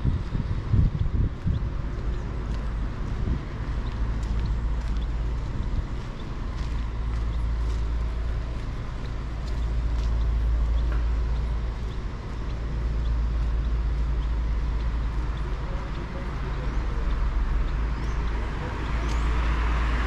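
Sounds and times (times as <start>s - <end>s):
road traffic rumble: 0.0s - 20.0s
vehicle passing: 0.0s - 20.0s.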